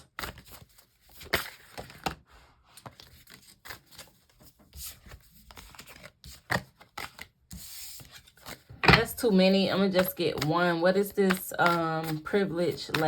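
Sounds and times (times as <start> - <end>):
cards being shuffled: 0.1 - 13.0.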